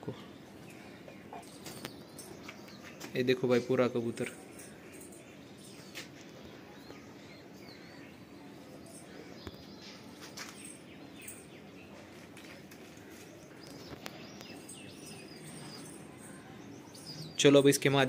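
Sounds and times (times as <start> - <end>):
bird chirps: 0.0 - 17.9
faint background noise: 0.0 - 18.0.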